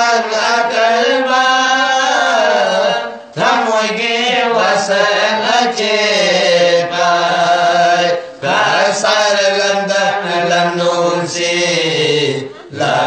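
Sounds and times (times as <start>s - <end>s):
men chanting a devotional song: 0.0s - 13.0s.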